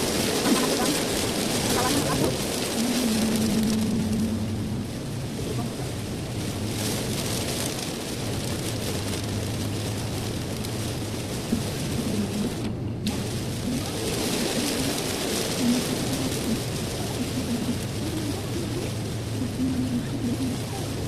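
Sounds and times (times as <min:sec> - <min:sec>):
low engine and road drone: 0:00.0 - 0:21.0
tyres hissing on wet road: 0:00.0 - 0:21.0.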